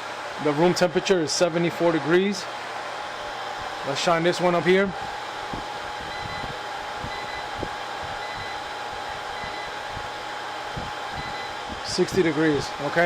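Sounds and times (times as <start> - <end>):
faint constant whine: 0.0 - 13.0
fan and rushing air noise: 0.0 - 13.0.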